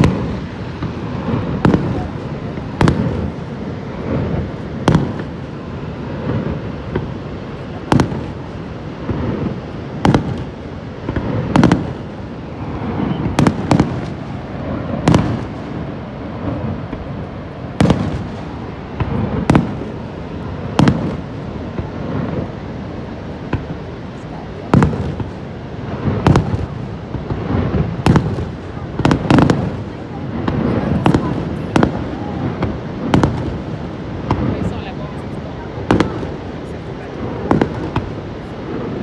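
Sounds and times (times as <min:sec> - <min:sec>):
fireworks bangs: 0:00.0 - 0:39.0
steady rushing noise: 0:00.0 - 0:39.0.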